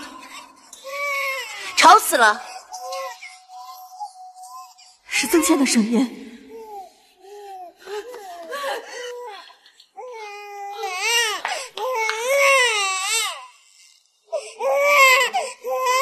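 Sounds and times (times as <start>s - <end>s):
newborn baby crying: 0.0s - 5.9s, 6.5s - 16.0s.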